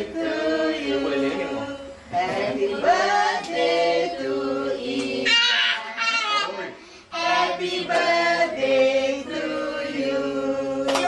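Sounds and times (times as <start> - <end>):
group singing in unison: 0.0 - 5.6, 7.1 - 11.0.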